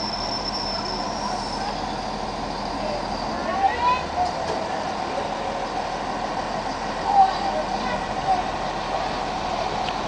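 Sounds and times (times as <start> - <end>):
diesel train engine rumbling: 0.0 - 10.0.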